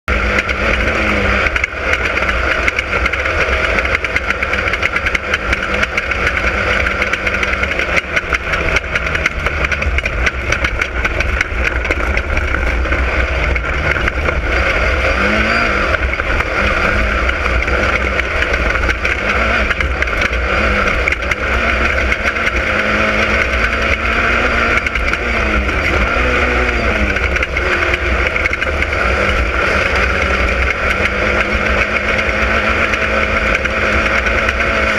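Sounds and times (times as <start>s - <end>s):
race car engine running: 0.0s - 34.9s
low rumble: 0.1s - 34.3s.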